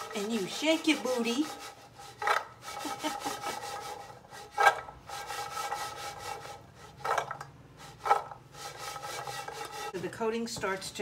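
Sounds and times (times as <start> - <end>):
cookies sliding in a pan: 0.0 - 10.0
scraping strokes in a pan: 0.0 - 10.1.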